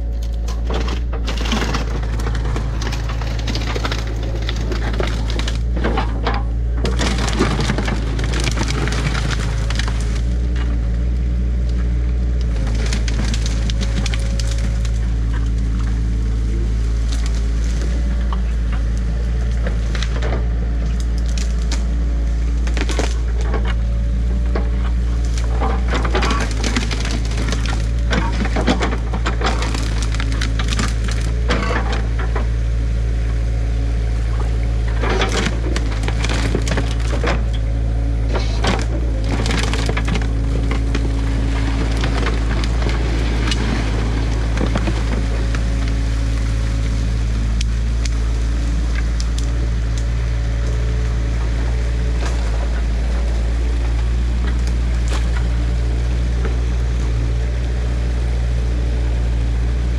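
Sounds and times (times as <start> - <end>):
excavator engine running: 0.0 - 59.9
sticks cracking and snapping: 6.8 - 32.5, 34.4 - 59.9.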